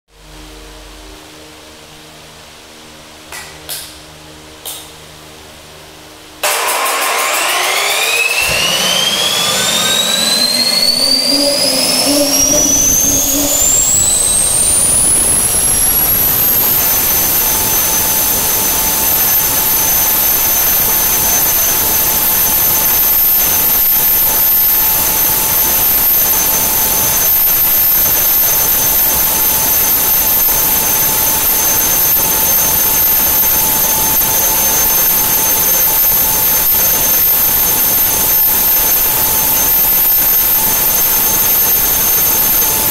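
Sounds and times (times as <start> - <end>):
gas turbine whine: 0.1 - 3.3, 4.0 - 42.9.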